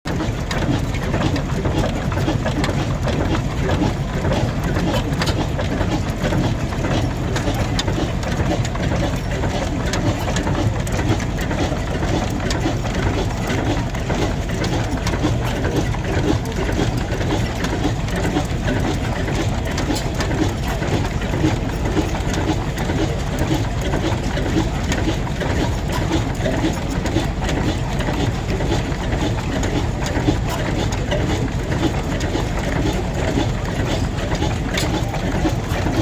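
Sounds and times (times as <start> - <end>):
heavy engine idling: 0.1 - 36.0.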